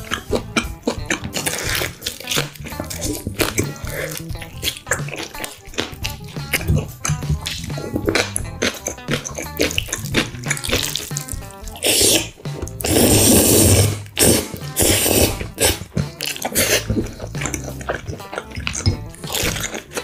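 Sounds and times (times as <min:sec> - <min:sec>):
background music with steady beat: 0:00.0 - 0:20.0
slurping noodles: 0:00.0 - 0:20.0.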